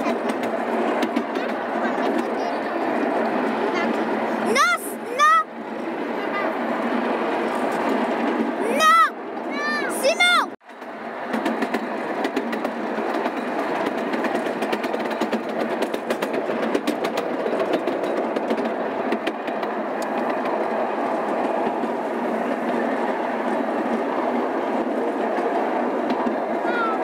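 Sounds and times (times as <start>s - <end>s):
miniature train rolling on track: 0.0s - 27.0s
wheels clicking on rails: 0.0s - 27.0s.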